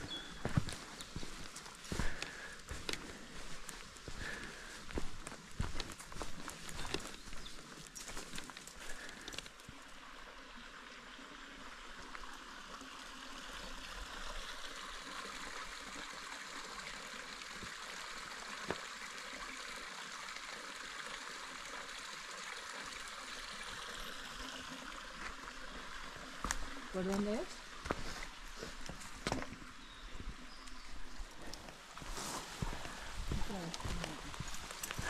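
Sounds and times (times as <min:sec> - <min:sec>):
creek trickling over rocks: 0:00.0 - 0:35.0.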